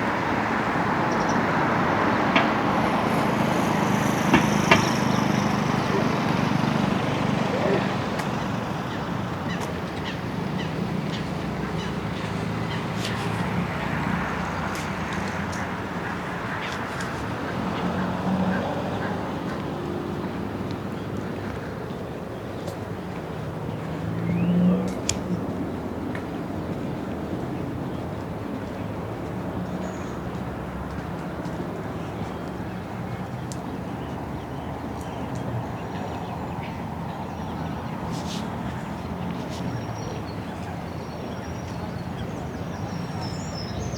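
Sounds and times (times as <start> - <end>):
distant city traffic hum: 0.0 - 43.9.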